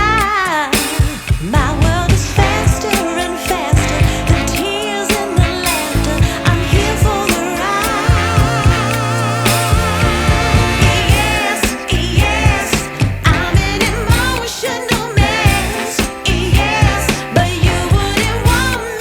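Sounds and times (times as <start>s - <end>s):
song with sung melody and beat: 0.0s - 19.0s.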